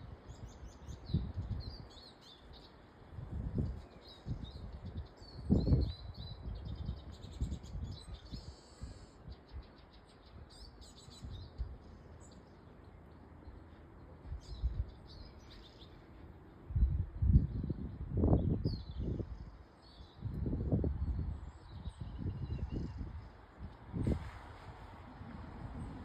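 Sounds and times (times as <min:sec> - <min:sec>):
songbirds chirping and twittering: 0:00.0 - 0:26.0.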